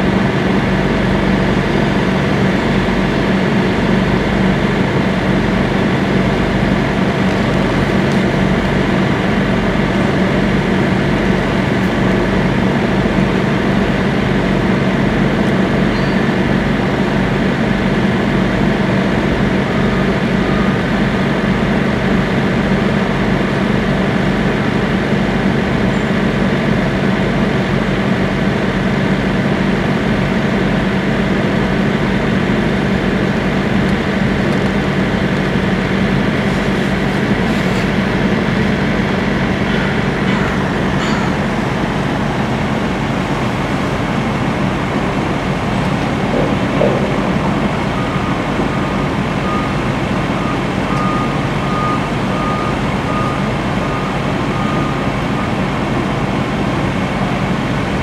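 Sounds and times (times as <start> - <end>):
diesel truck idling: 0.0 - 58.0
freight train passing: 0.0 - 58.0.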